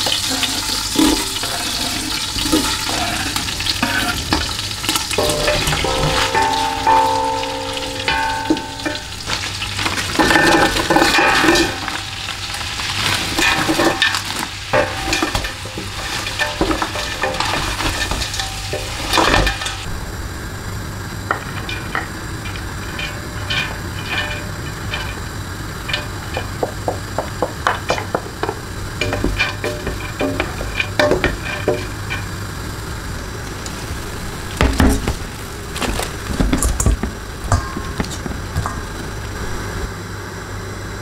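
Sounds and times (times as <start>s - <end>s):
food sizzling in a pot: 0.0s - 19.9s, 20.8s - 35.7s.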